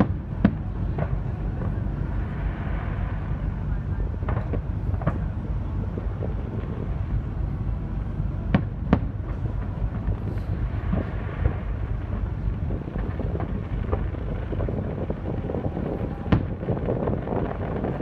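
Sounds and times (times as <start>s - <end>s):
distant fireworks bangs: 0.0s - 7.2s, 8.4s - 18.0s
ferry engine low rumble: 0.0s - 18.0s.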